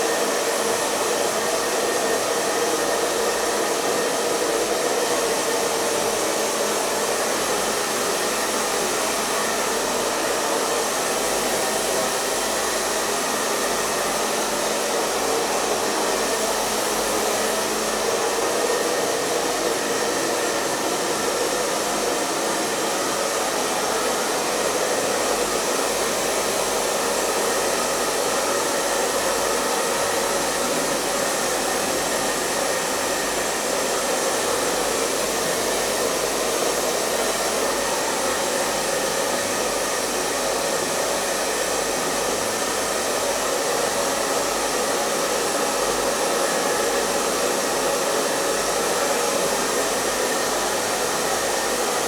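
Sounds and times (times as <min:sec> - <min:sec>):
hair dryer blowing air: 0:00.0 - 0:52.0.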